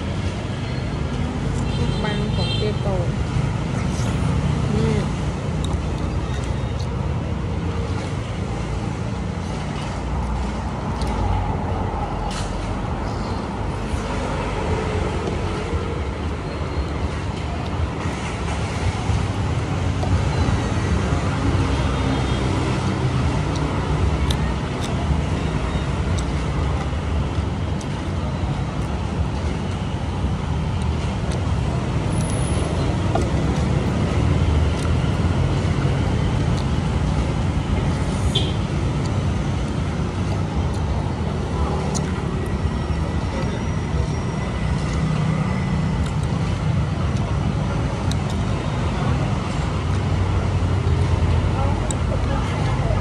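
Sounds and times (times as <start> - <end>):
street traffic rumbling: 0.0 - 53.0.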